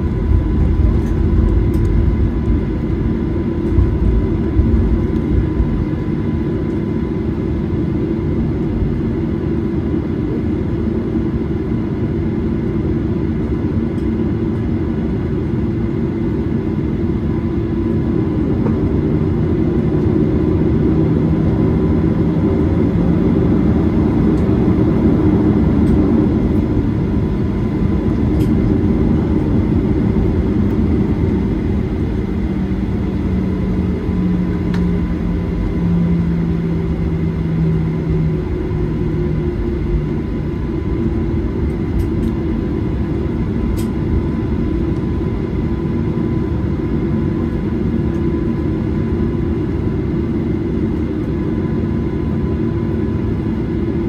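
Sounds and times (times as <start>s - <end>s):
aircraft engines idling rumble: 0.0s - 54.0s.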